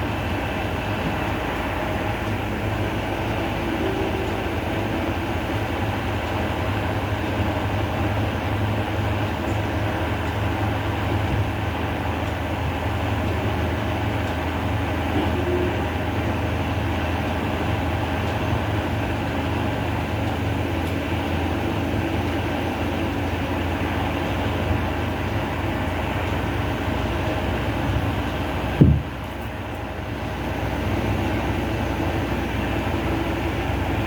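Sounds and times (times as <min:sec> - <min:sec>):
low rumbling background noise: 0:00.0 - 0:34.0.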